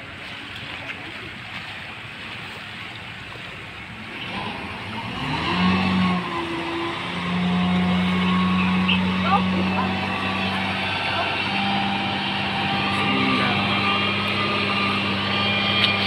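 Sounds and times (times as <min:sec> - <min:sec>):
boat engine drone: 0:00.0 - 0:16.0
water: 0:00.0 - 0:16.0
wind: 0:00.0 - 0:16.0.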